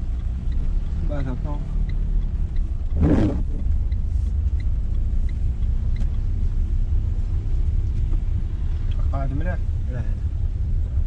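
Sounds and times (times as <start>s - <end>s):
faint ticks: 0.0s - 9.1s
car engine and tyres rumble: 0.0s - 11.0s.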